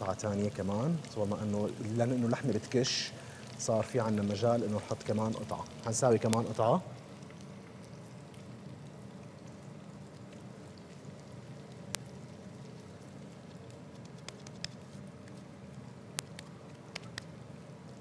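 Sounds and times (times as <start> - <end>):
patties sizzling in oil: 0.0 - 18.0.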